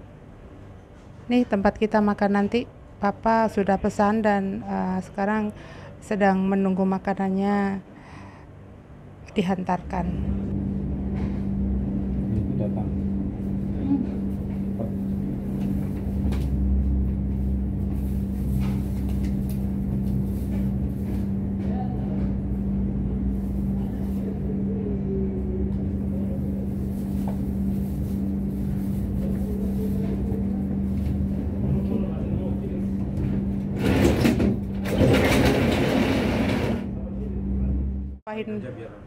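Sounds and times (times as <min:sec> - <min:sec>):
low machine hum: 0:00.0 - 0:39.0.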